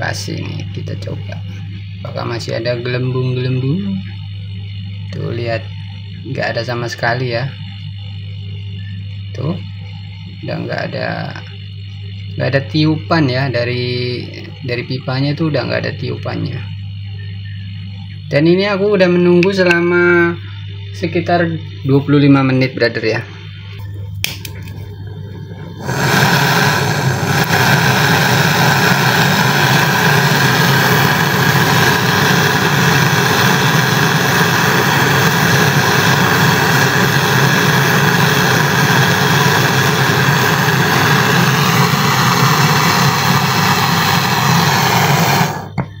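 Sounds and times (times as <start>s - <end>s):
gas torch roaring: 0.0s - 16.6s, 18.3s - 46.0s
compressor hum: 0.0s - 46.0s.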